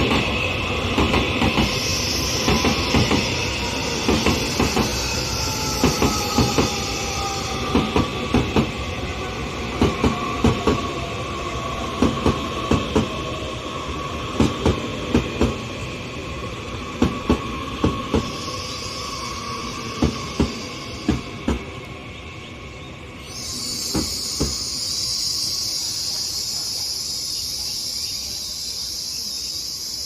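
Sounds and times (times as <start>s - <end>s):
train rolling noise: 0.0s - 30.0s.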